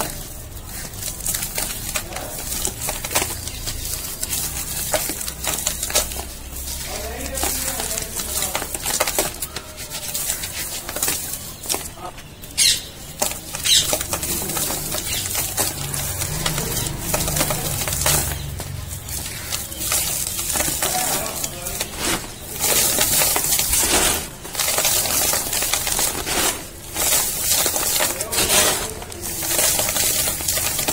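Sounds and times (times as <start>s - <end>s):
cardboard crunching and crackling: 0.0s - 30.9s.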